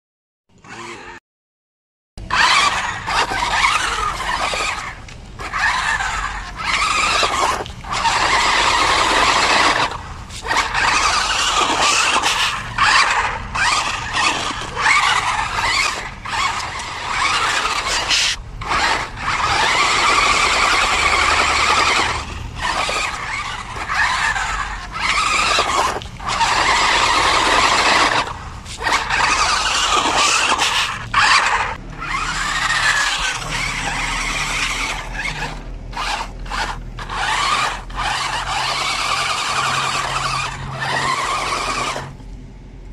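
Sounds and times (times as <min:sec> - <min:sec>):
toy car electric motor whining: 0:00.6 - 0:01.2, 0:02.2 - 0:42.2.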